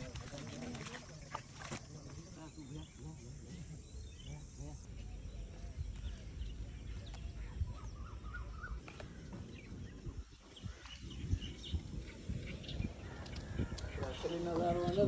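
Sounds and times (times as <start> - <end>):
bird chirps: 2.1 - 14.5.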